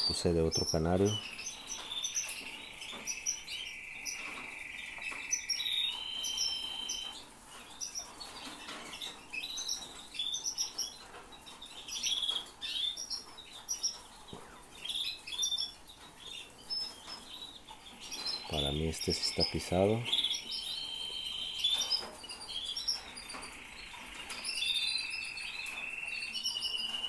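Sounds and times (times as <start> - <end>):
canary chirps and twitters: 0.0 - 27.0
canary trilling: 0.0 - 27.0.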